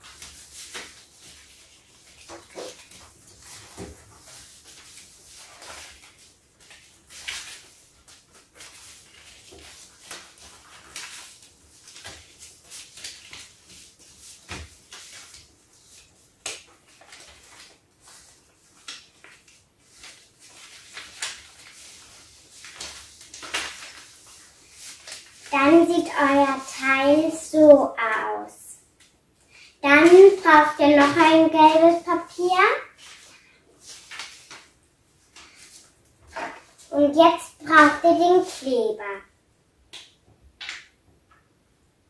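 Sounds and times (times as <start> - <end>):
paper rustling and crinkling: 0.0 - 28.3, 29.9 - 37.0.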